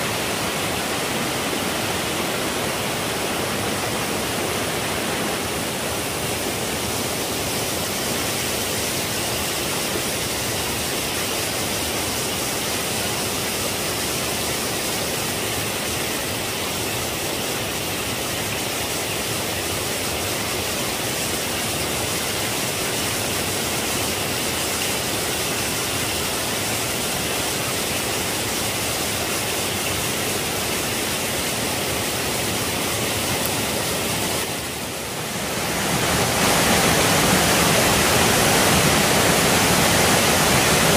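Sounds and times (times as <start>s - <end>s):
waterfall rushing down rocky stream: 0.0s - 40.9s.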